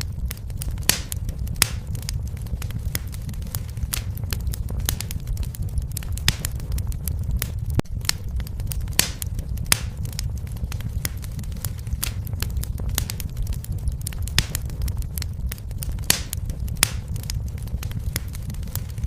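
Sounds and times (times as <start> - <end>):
low rumble of flames: 0.0 - 19.0
wood fire crackling and popping: 0.0 - 19.0.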